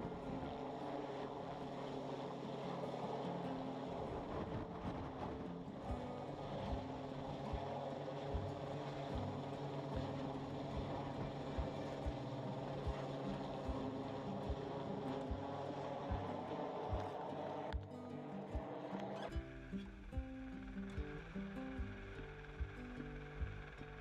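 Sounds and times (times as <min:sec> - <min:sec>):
helicopter drone: 0:00.0 - 0:24.0
background music with low thumps: 0:04.2 - 0:24.0.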